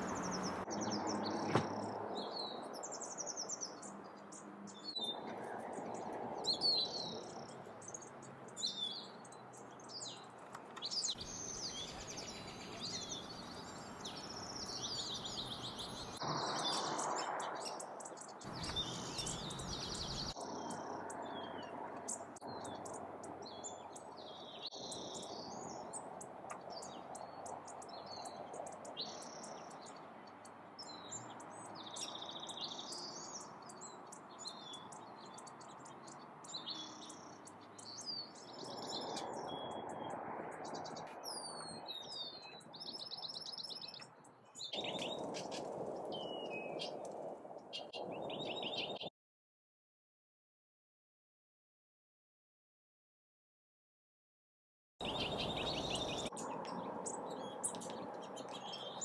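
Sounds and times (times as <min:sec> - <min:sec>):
songbirds chirping: 0:00.0 - 0:49.1, 0:55.0 - 0:59.0.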